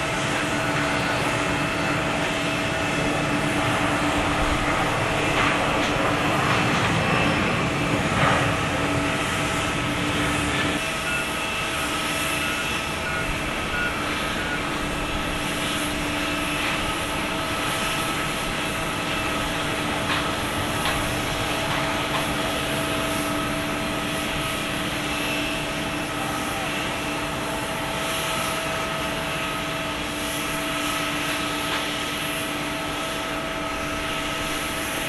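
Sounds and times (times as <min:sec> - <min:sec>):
jet engines whining: 0:00.0 - 0:35.0.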